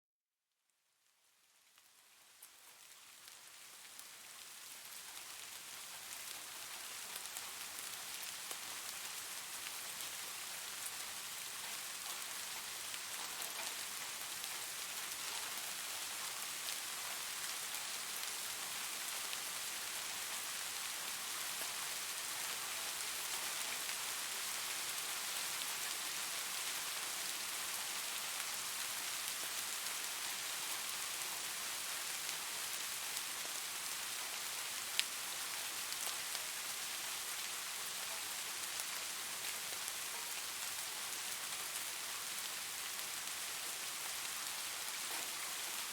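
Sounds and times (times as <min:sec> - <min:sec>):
steady rainfall: 0:01.4 - 0:45.9.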